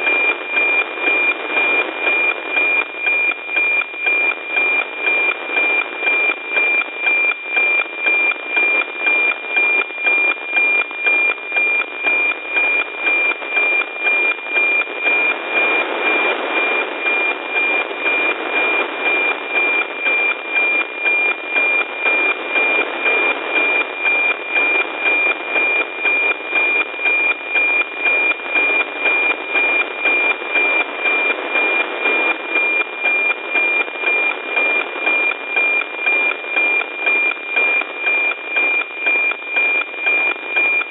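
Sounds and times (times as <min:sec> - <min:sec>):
high tone pulsing with tick-tock: 0:00.0 - 0:40.9
radio static: 0:00.0 - 0:40.9.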